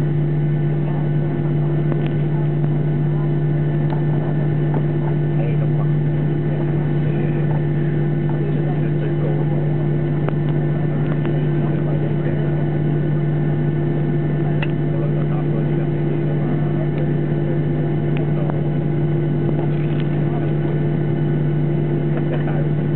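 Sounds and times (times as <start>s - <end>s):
airplane cabin drone: 0.0s - 22.9s.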